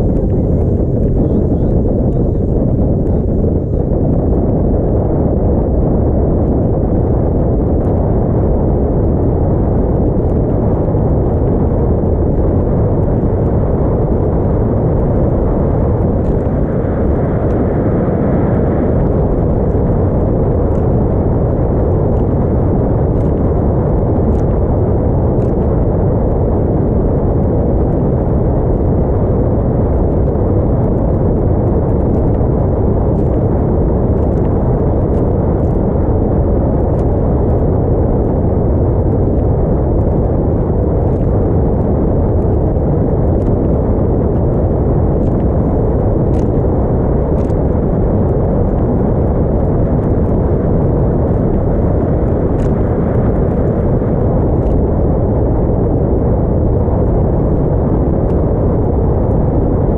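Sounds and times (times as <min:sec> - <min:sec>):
motorboat engine rumble: 0:00.0 - 0:55.4
wind noise on microphone: 0:00.0 - 0:59.9.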